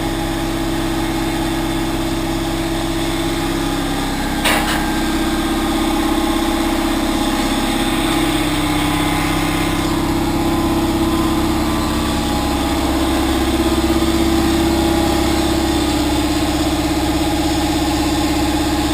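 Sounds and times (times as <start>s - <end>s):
machine humming with fast pulse: 2.8s - 18.9s.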